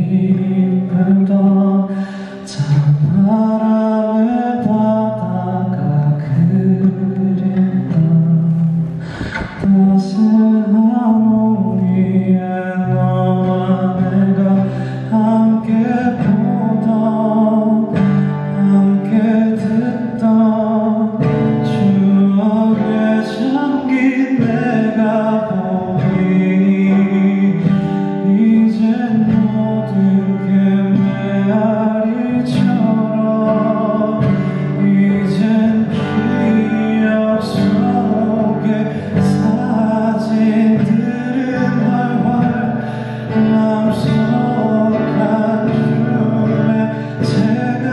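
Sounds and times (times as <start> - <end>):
guitar accompaniment: 0.0 - 47.9
man singing: 0.0 - 47.9.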